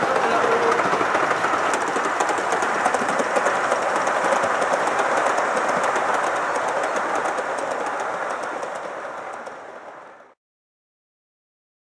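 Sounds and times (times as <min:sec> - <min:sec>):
model train rumbling: 0:00.0 - 0:10.4
wheels clicking on track: 0:00.0 - 0:10.4.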